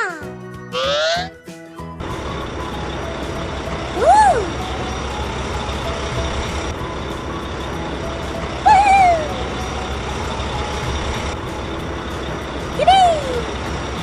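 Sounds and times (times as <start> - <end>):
low engine rumble: 1.9 - 14.0
short pitched calls: 2.1 - 14.0.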